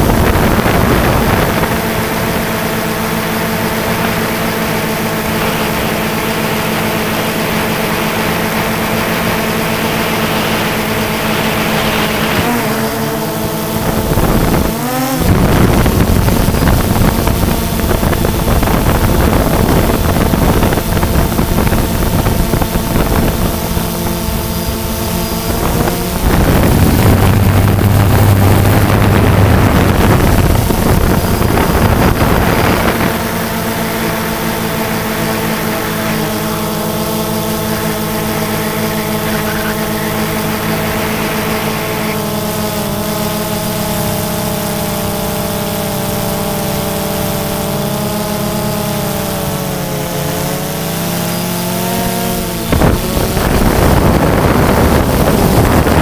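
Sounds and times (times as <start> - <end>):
drone propellers whining: 0.0 - 56.0
wind gusts on microphone: 0.0 - 56.0.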